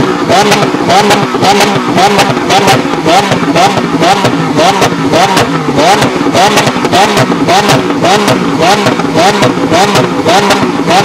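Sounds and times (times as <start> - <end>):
car engine revving at high revs: 0.0 - 11.0.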